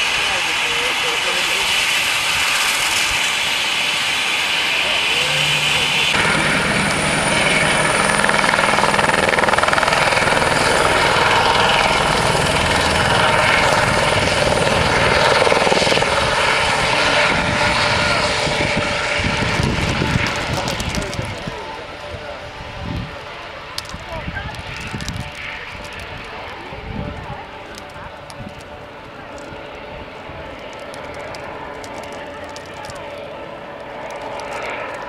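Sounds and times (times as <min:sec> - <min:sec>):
helicopter rotor whine: 0:00.0 - 0:35.0.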